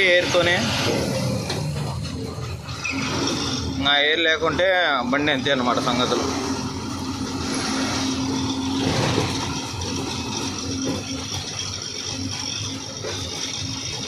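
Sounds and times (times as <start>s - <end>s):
road noise: 0.0s - 14.0s
truck diesel engine running: 0.0s - 14.0s.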